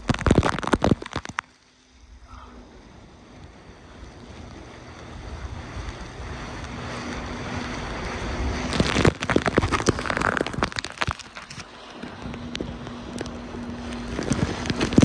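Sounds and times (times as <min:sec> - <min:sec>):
dense splashing and spray: 0:00.0 - 0:01.6, 0:02.2 - 0:15.0
water rushing under inner tube: 0:00.0 - 0:15.0
faint jet ski engine hum: 0:01.4 - 0:15.0.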